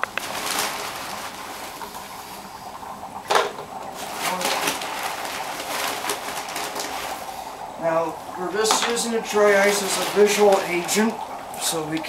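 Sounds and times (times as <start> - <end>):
dry ice bubbling and hissing: 0.0 - 12.0.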